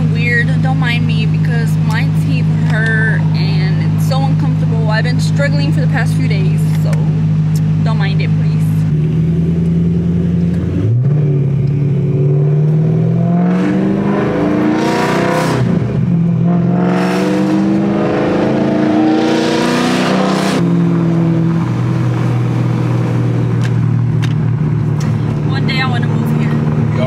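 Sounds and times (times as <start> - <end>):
car engine pulling through gears: 0.0 - 27.0.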